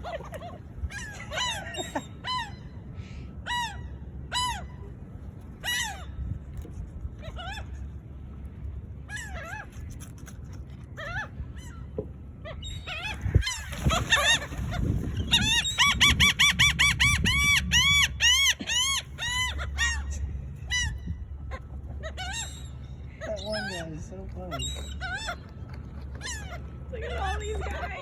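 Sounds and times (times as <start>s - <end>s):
gulls calling: 0.0s - 6.2s, 11.0s - 28.0s.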